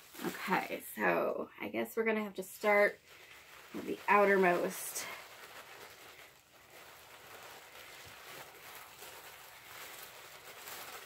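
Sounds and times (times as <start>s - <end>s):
tissue paper rustling: 0.0s - 11.0s.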